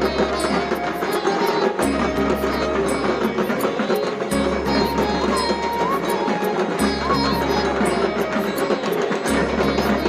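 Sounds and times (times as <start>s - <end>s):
music with quick drum strokes: 0.0s - 10.0s.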